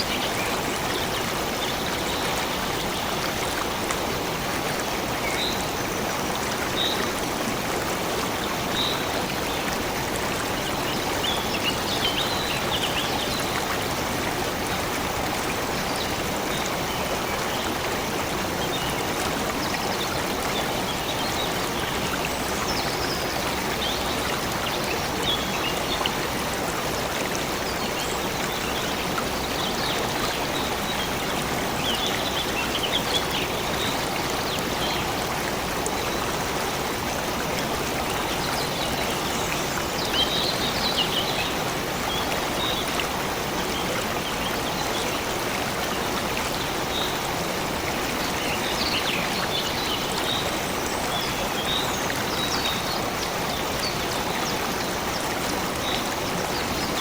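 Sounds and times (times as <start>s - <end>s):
stream water flowing and splashing: 0.0s - 57.0s.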